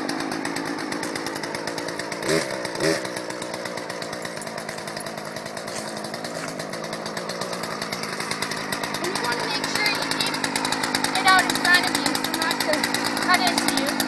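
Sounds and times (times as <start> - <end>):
chainsaw idling: 0.0 - 14.0
chainsaw throttle blips: 0.0 - 14.0.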